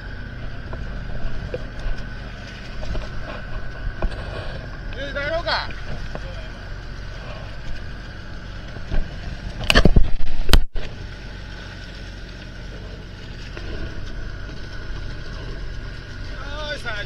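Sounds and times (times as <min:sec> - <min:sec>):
boat engine rumbling: 0:00.0 - 0:17.0
splashing and rustling: 0:00.4 - 0:17.0.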